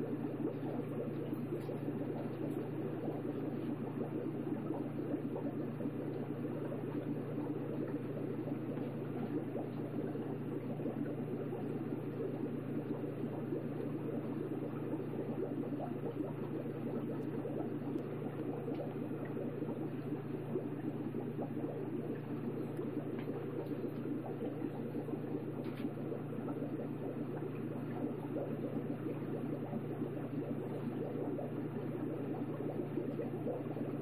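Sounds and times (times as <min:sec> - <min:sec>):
aquarium water bubbling: 0:00.0 - 0:34.0
low steady hum: 0:00.0 - 0:34.0.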